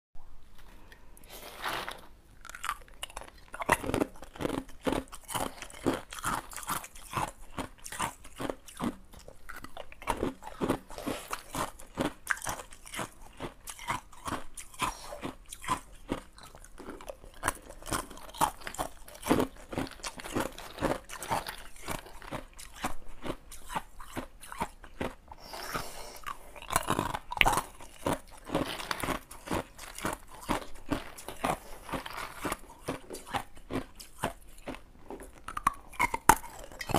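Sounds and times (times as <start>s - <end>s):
ice cubes being chewed: 1.5s - 36.9s.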